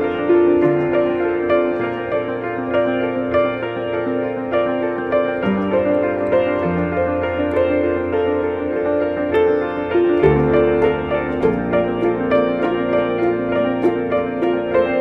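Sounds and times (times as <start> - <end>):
uplifting piano music: 0.0 - 15.0.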